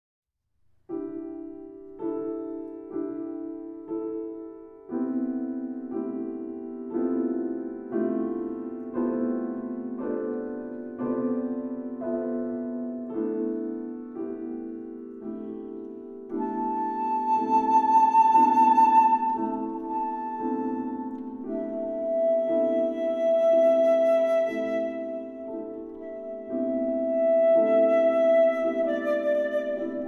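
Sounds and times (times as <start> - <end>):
slow piano chords: 0.8 - 30.0.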